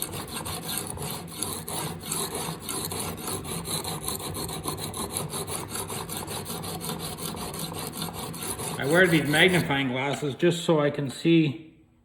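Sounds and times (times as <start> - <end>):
sharpening stone rasping on knife: 0.0 - 9.7.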